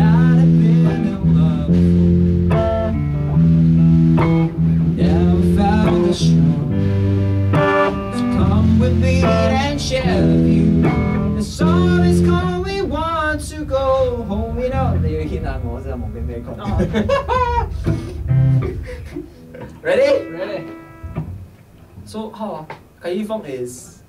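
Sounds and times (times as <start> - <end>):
electric bass line: 0.0 - 21.6
electric guitar: 0.0 - 22.0.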